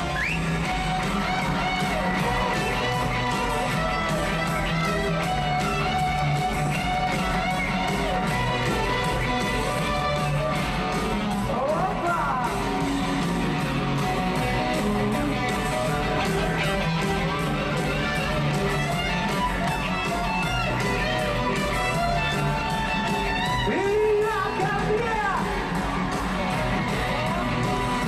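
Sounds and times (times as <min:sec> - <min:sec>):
rock band playing live: 0:00.0 - 0:28.0.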